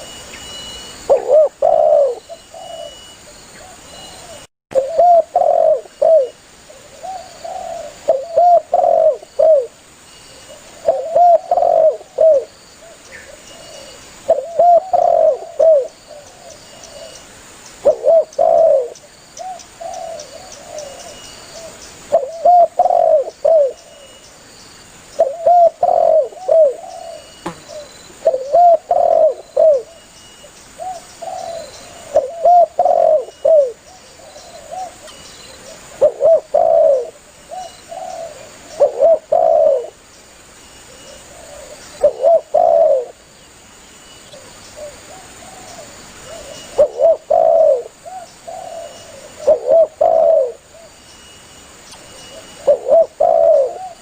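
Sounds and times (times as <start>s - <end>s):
dove cooing: 1.0s - 9.8s, 10.4s - 17.2s, 17.8s - 24.0s, 25.2s - 30.0s, 30.8s - 40.0s, 40.9s - 43.2s, 44.3s - 51.0s, 52.3s - 54.0s.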